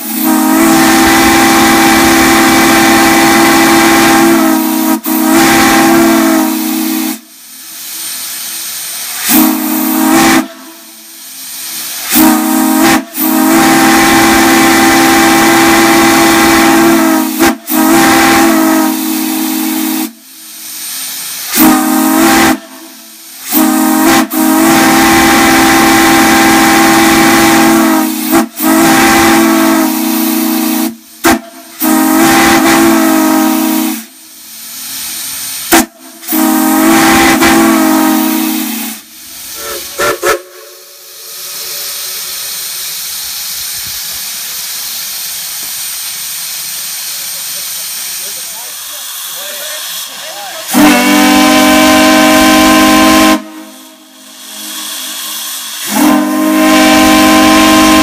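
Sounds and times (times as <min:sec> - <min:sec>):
steam whistle blasts: 0:00.0 - 0:08.0, 0:09.0 - 0:43.2, 0:49.2 - 0:58.0
hissing steam: 0:00.0 - 0:58.0.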